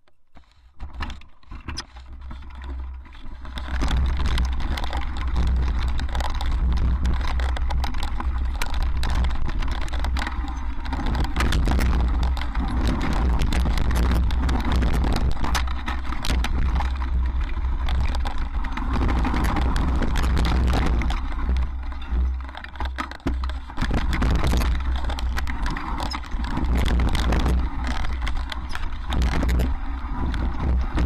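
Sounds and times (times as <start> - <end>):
bike rattling over rocks: 0.4 - 31.0
wind rumble on microphone: 0.8 - 31.0.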